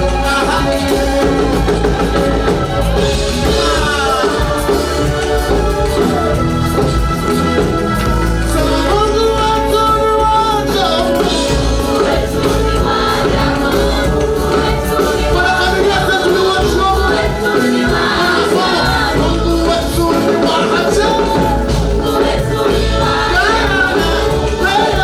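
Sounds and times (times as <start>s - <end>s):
band with steady bass: 0.0s - 25.0s
voices singing gospel: 0.0s - 25.0s.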